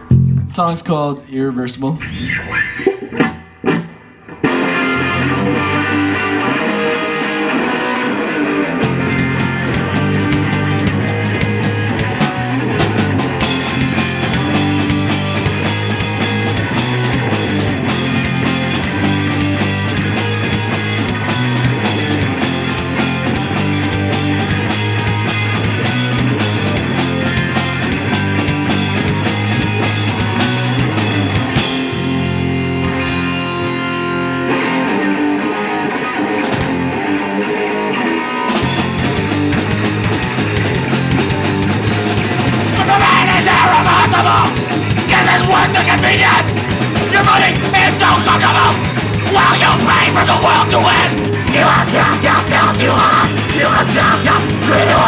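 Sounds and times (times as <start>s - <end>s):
electric guitar: 0.0s - 0.6s, 1.8s - 55.0s
drum kit: 0.0s - 0.8s, 2.2s - 34.0s, 36.3s - 37.0s, 38.5s - 55.0s
bass guitar: 0.0s - 55.0s.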